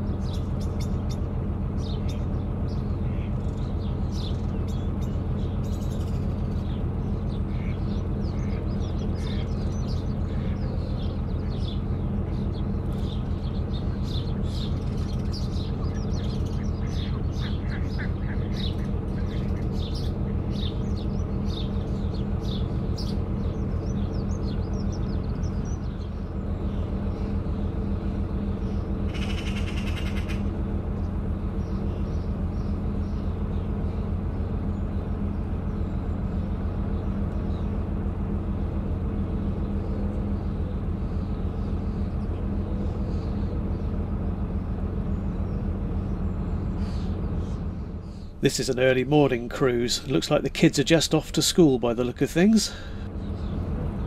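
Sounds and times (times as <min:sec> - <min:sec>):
boat engine chugging: 0:00.0 - 0:54.0
songbirds chirping: 0:00.0 - 0:54.0.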